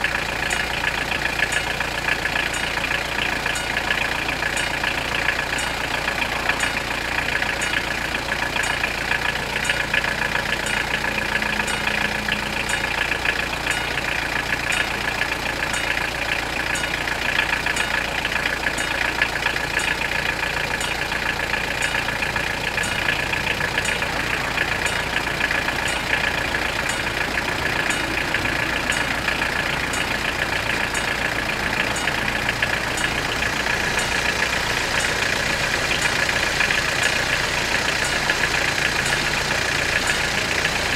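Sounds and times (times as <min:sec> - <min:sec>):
level crossing warning bells: 0:00.0 - 0:40.9.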